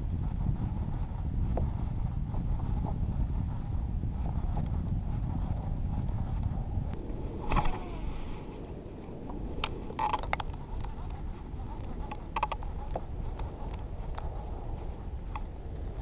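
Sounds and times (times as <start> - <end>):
wind rumble: 0.0 - 16.0.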